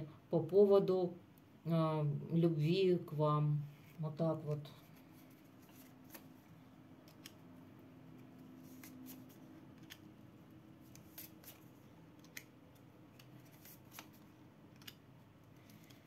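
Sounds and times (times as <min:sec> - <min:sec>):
faint low room hum: 0:00.0 - 0:16.0.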